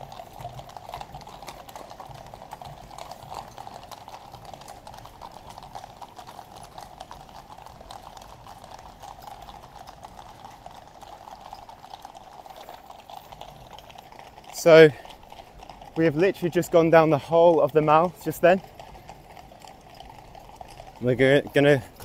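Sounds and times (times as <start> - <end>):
horse hooves clip-clopping on road: 0.0 - 22.0.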